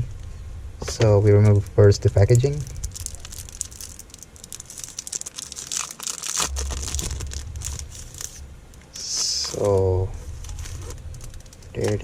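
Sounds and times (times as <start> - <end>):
low handling rumble: 0.0 - 12.0
plastic packaging crinkling: 2.0 - 12.0.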